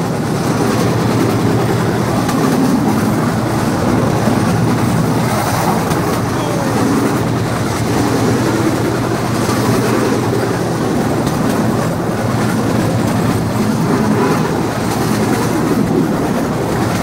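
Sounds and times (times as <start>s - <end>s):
wheels clattering over track: 0.0s - 17.0s.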